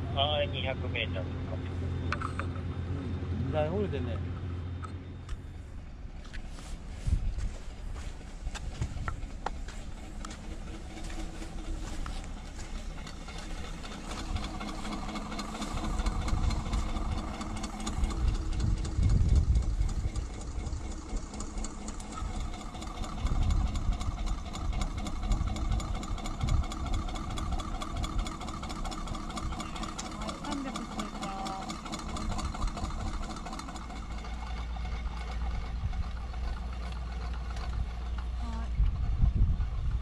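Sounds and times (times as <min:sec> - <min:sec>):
low rumbles: 0:00.0 - 0:40.0
machine hum: 0:00.0 - 0:40.0.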